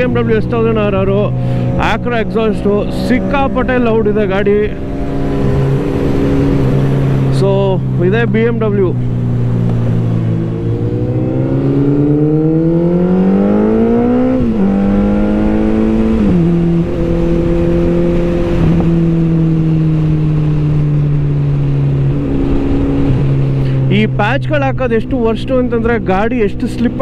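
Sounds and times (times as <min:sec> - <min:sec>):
motorcycle engine accelerating: 0:00.0 - 0:27.0
wind and road noise: 0:00.0 - 0:27.0.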